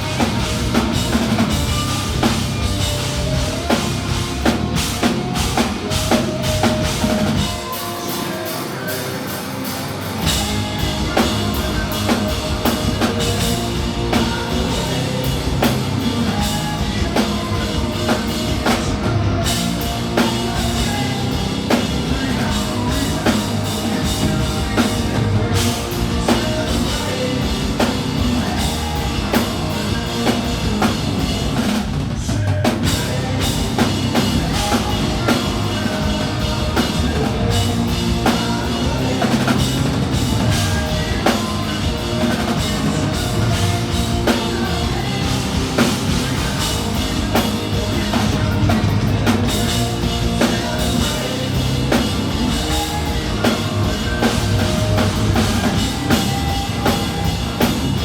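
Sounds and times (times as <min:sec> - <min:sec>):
drum kit: 0:00.0 - 0:58.0
hard rock band playing live: 0:00.0 - 0:58.0.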